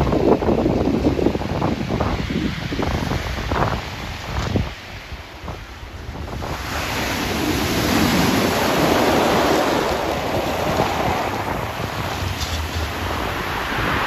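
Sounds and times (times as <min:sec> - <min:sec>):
surf on pebble beach: 0:00.0 - 0:14.0
wind rumbling on microphone: 0:00.0 - 0:14.0.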